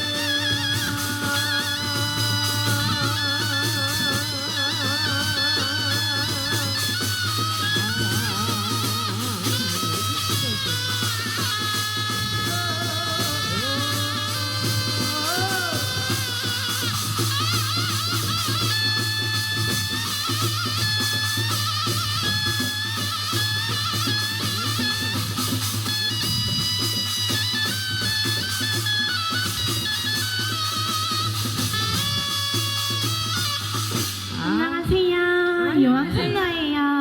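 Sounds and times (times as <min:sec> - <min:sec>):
regular drumming: 0:00.0 - 0:36.4
wavering melody with vibrato: 0:00.0 - 0:36.6.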